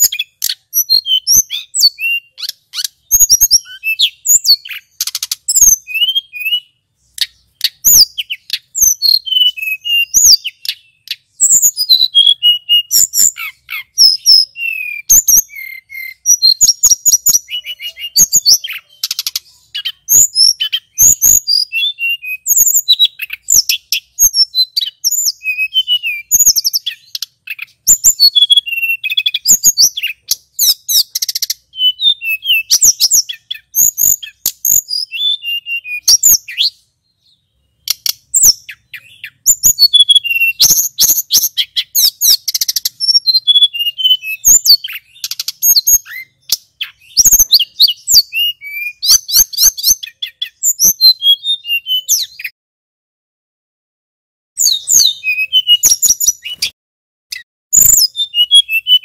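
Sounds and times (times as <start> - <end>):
bird singing whistles and trills: 0.0 - 52.6, 54.6 - 59.0.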